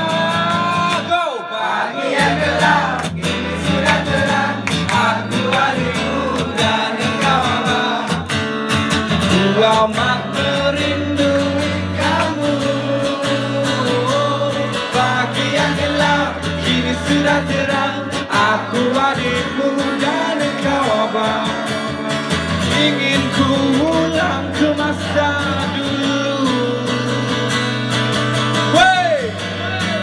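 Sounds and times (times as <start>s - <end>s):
man singing into a microphone: 0.0s - 8.3s, 9.2s - 27.7s, 28.6s - 30.0s
acoustic guitar strumming: 0.0s - 30.0s.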